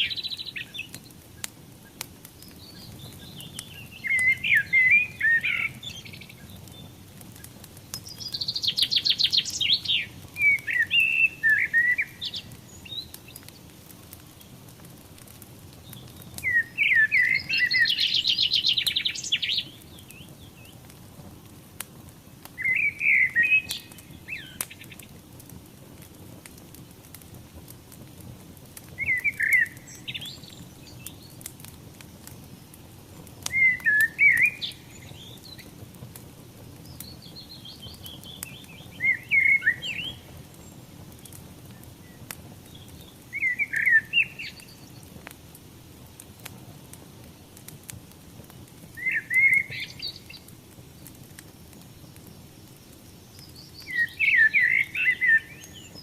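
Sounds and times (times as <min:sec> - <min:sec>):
songbird singing: 0:00.0 - 0:13.7, 0:15.7 - 0:21.2, 0:22.4 - 0:25.1, 0:28.8 - 0:35.8, 0:36.4 - 0:45.3, 0:48.4 - 0:56.0
wood fire hissing and crackling: 0:00.0 - 0:56.0.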